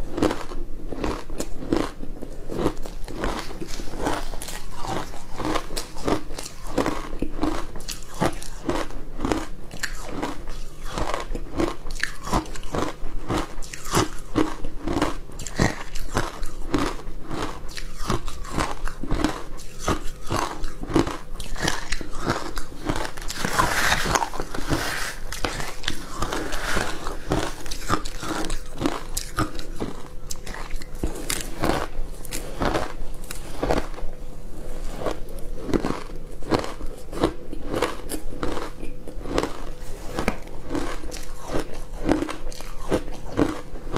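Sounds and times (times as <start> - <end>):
crunching and chewing ice: 0.0 - 43.9.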